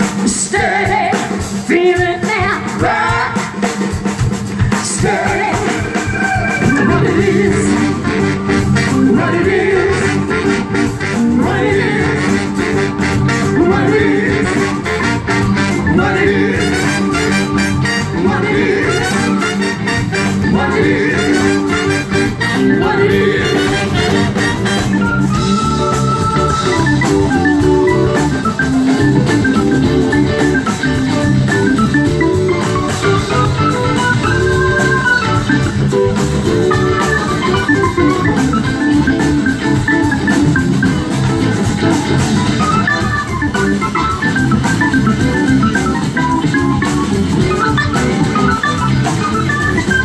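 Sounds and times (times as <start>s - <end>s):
bass: 0.0s - 50.0s
drum kit: 0.0s - 50.0s
melodic lead line: 4.0s - 50.0s.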